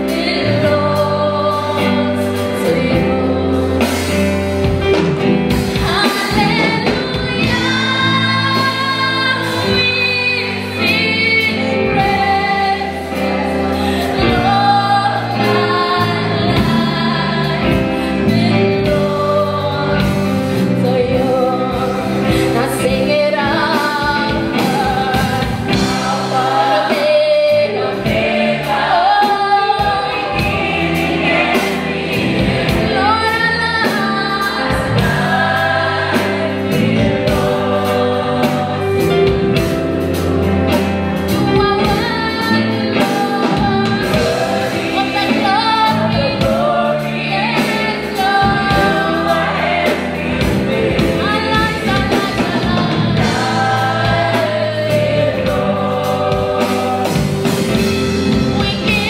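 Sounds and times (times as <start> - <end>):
band with drum kit: 0.0 - 59.0
choir singing: 0.0 - 59.0
woman lead singing: 0.0 - 59.0.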